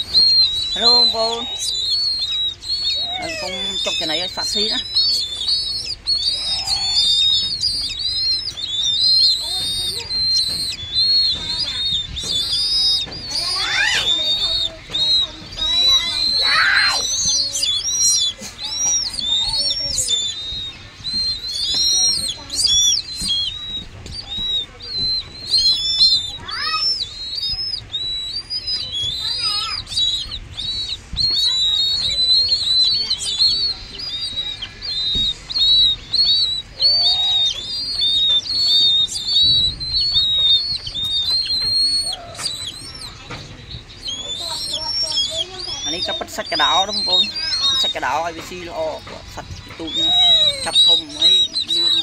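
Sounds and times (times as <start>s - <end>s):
raptor chicks cheeping: 0.0s - 52.0s.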